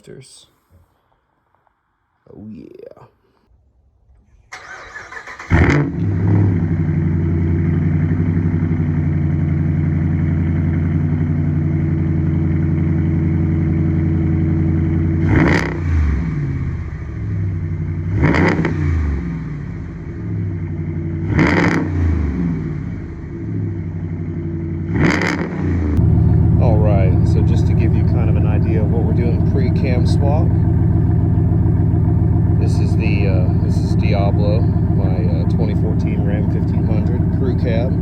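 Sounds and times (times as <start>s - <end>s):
pickup truck engine idling and revving: 4.6s - 38.0s.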